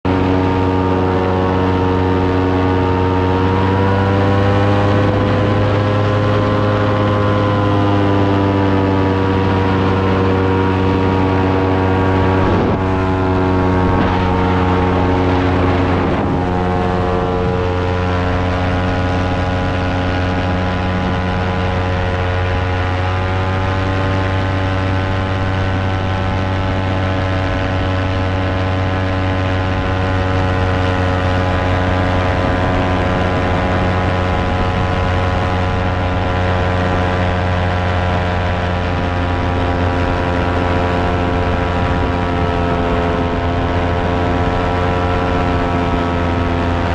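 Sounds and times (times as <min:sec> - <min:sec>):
electric fan humming: 0:00.1 - 0:46.9.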